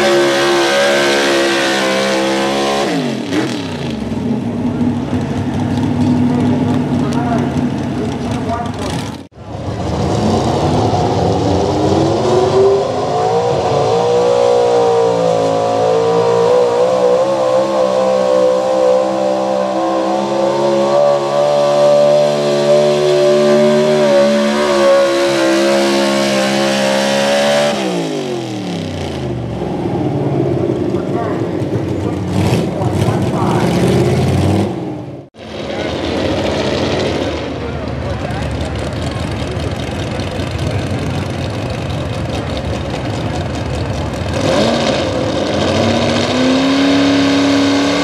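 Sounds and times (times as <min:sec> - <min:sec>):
truck engine at full throttle: 0:00.0 - 0:48.0.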